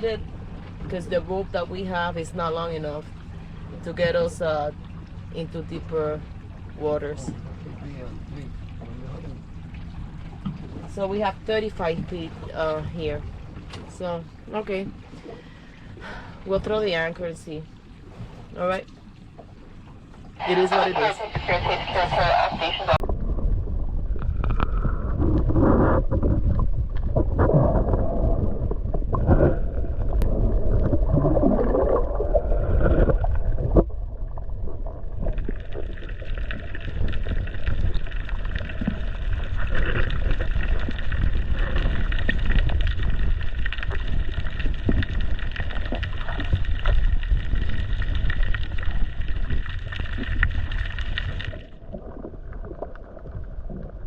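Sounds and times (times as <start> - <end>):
water and wind noise: 0.0 - 54.0.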